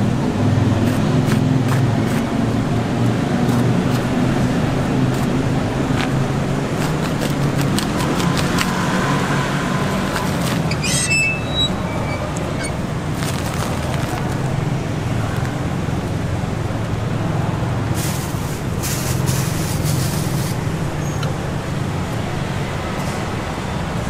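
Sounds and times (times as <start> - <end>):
busy street traffic: 0.0 - 24.0
low engine hum: 0.0 - 24.0.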